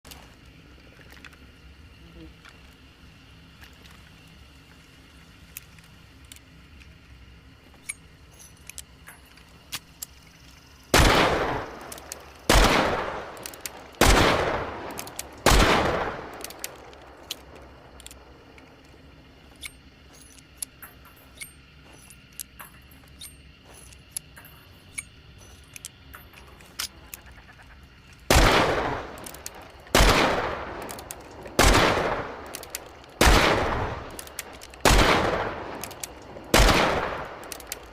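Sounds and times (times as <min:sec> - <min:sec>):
small clicks: 0:03.4 - 0:10.7, 0:11.6 - 0:12.4, 0:13.3 - 0:14.0, 0:14.9 - 0:15.6, 0:16.2 - 0:30.1, 0:30.7 - 0:37.9.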